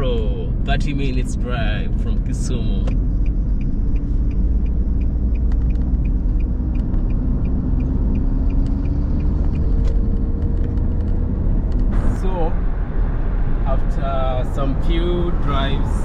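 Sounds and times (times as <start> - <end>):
vehicle driving on road: 0.0 - 16.0.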